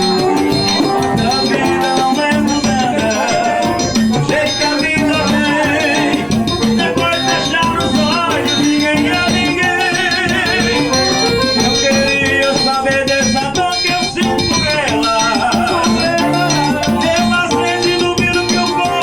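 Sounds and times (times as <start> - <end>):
accordion playing a dance tune: 0.0 - 19.0
drum rhythm: 0.0 - 19.0.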